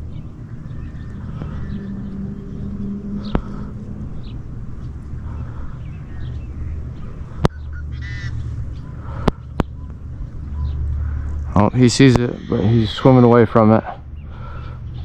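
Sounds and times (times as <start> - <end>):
bird honking: 0.0 - 15.0
steady low rumble: 0.0 - 15.0.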